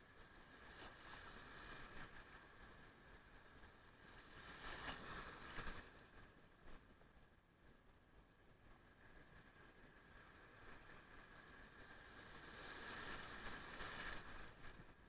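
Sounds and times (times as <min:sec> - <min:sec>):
faint surf: 0:00.0 - 0:15.0.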